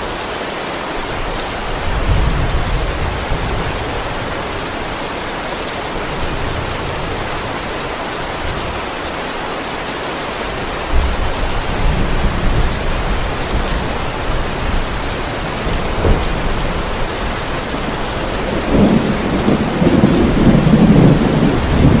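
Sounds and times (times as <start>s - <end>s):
heavy rain on a roof: 0.0s - 22.0s
thunder rumbling: 1.1s - 8.8s, 10.8s - 22.0s.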